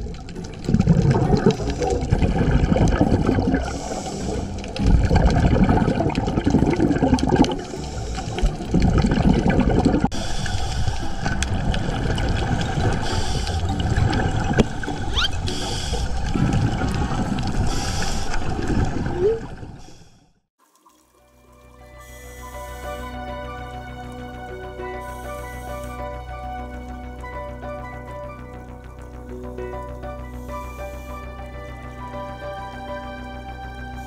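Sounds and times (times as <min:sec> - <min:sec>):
underwater bubbling and gurgling: 0:00.0 - 0:20.3, 0:22.0 - 0:34.0.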